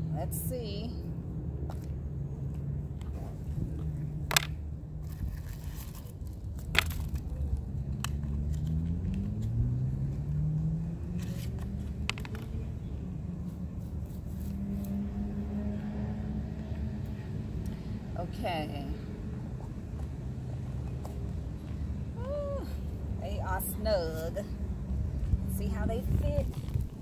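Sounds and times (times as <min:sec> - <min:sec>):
vehicle engine droning: 0:00.0 - 0:27.0.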